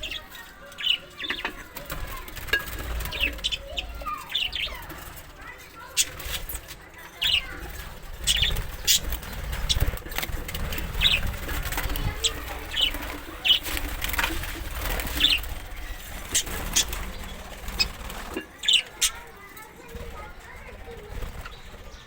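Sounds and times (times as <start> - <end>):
parrot flapping wings: 0.0 - 22.0.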